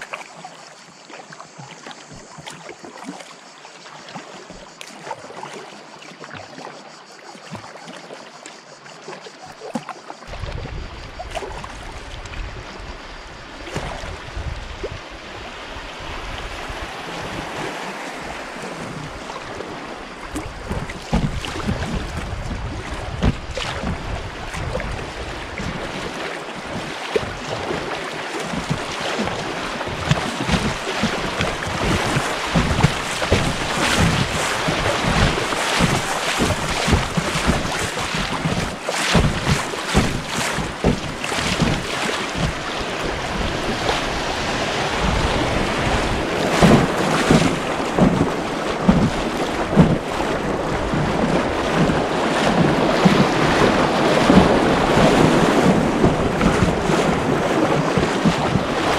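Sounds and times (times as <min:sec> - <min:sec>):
river water rushing and splashing: 0:00.0 - 0:58.9
wind buffeting microphone: 0:10.3 - 0:58.9.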